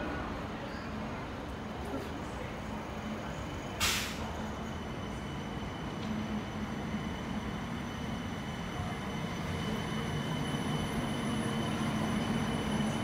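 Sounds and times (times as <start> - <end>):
tram rumble and hum: 0.0 - 13.0.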